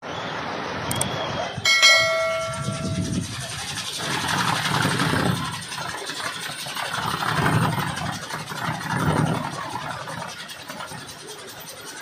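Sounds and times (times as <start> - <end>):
windmill propeller whirring: 0.0 - 12.0.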